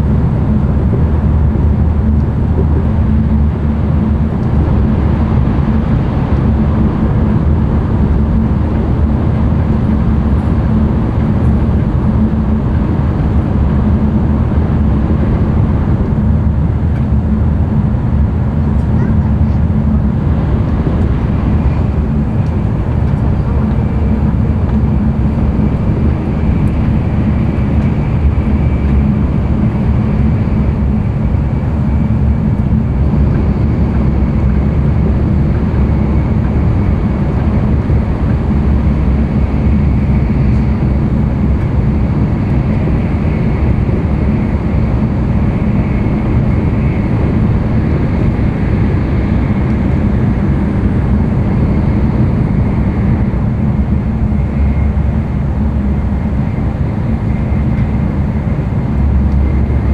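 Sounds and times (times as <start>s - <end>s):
train interior low rumble: 0.0s - 59.9s.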